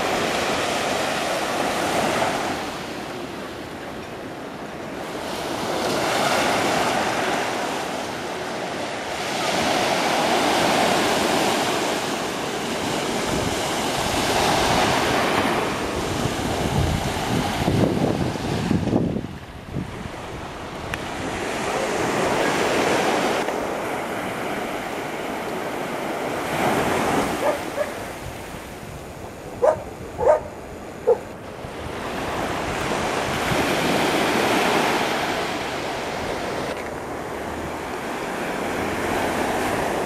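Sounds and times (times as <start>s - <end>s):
small waves breaking on sand: 0.0s - 40.0s.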